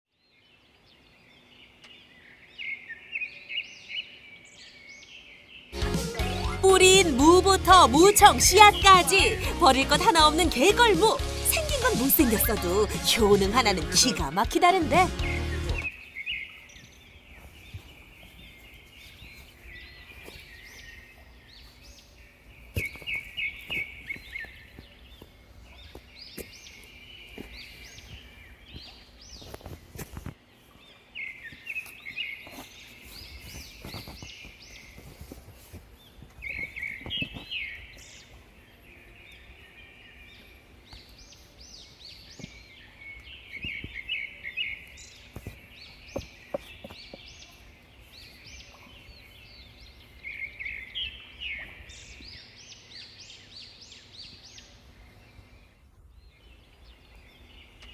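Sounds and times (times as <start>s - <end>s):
small birds chirping: 0.1s - 57.9s.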